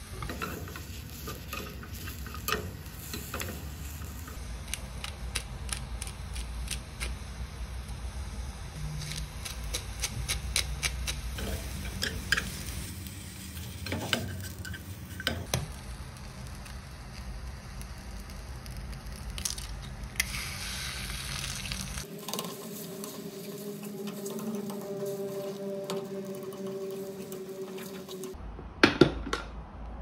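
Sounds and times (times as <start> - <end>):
mushrooms sizzling in frying pan: 0.0 - 5.0, 8.9 - 28.3.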